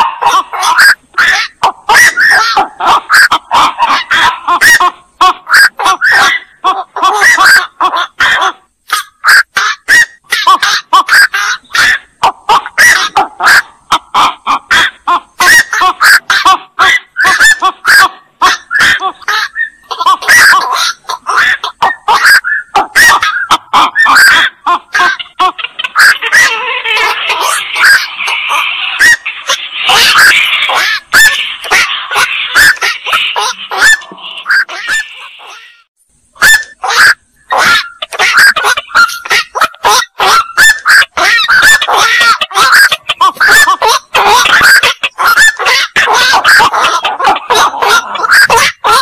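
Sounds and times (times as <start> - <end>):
herons calling: 0.0 - 49.0.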